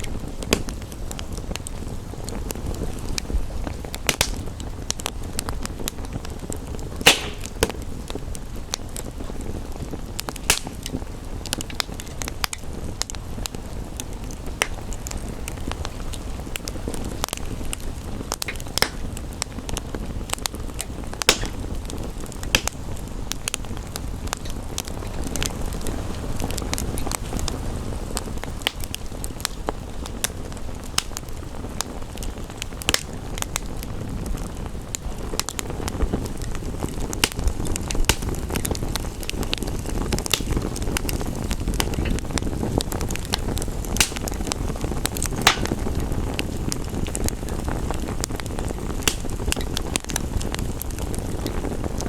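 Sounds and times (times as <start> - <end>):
rain rushing: 0.0 - 52.0
wood fire crackling and popping: 0.0 - 52.0.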